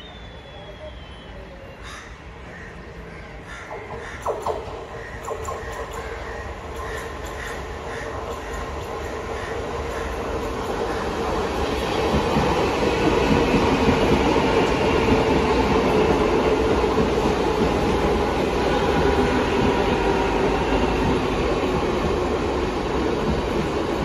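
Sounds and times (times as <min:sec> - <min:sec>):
local train running past: 0:00.0 - 0:24.0.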